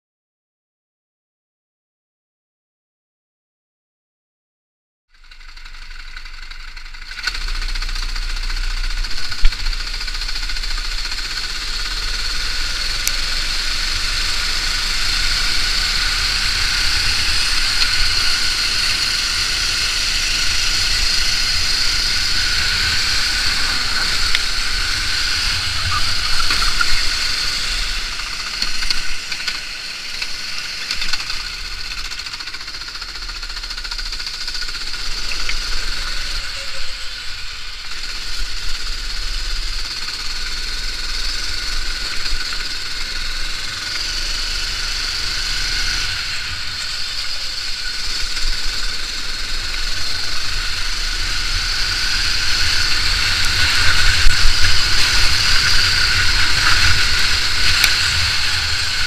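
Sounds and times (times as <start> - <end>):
go-kart engine running hard: 5.1 - 59.0.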